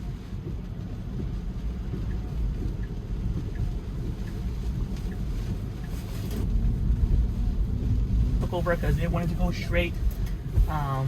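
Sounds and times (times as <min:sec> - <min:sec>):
road and rain rumble in car cabin: 0:00.0 - 0:11.0
turn signal ticking: 0:00.0 - 0:11.0.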